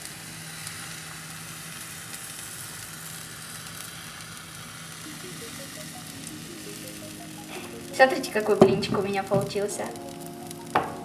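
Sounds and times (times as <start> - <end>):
pancake batter sizzling in a pan: 0.0 - 10.3.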